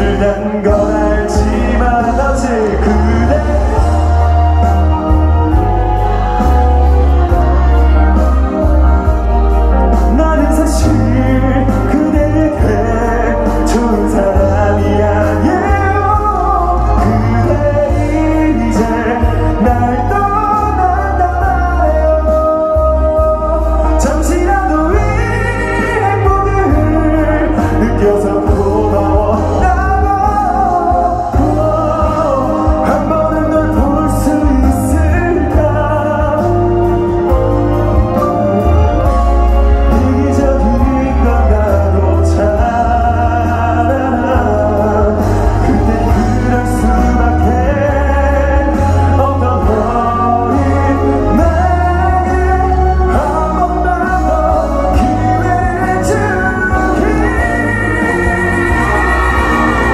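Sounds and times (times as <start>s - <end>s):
band with heavy bass: 0.0s - 59.9s
man singing pop ballad: 0.0s - 59.9s.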